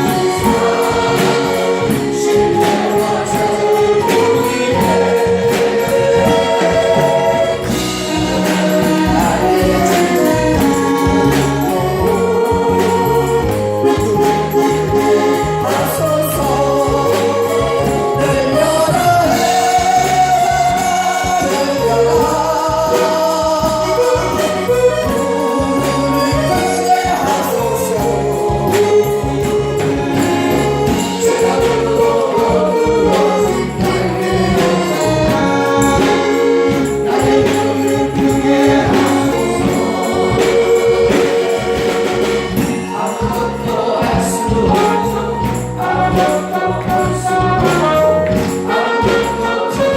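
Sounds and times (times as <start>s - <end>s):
choir singing gospel song: 0.0s - 49.9s
instrumental accompaniment: 0.0s - 49.9s.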